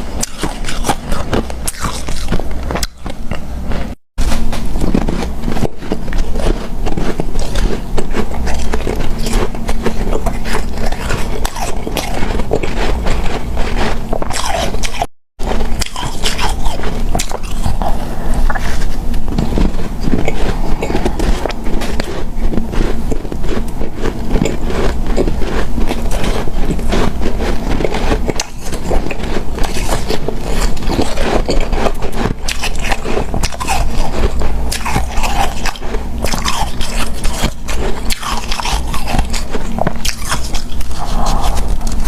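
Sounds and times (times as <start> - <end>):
biting and chewing ice: 0.0 - 42.0.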